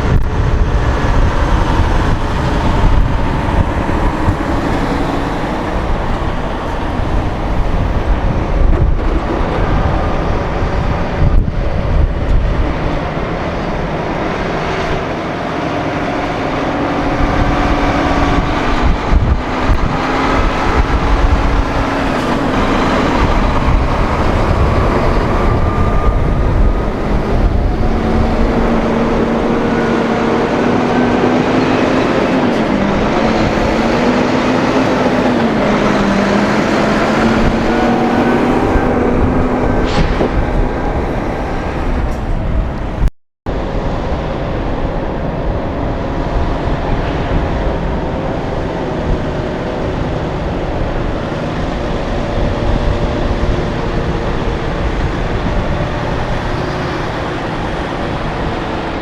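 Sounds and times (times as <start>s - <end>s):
heavy diesel trucks driving past: 0.0s - 59.0s.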